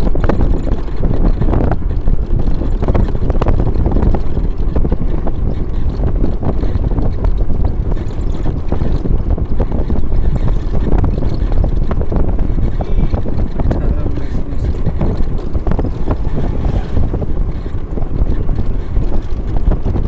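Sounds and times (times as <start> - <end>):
road travel rumble: 0.0 - 20.0
wind buffeting microphone: 0.0 - 20.0.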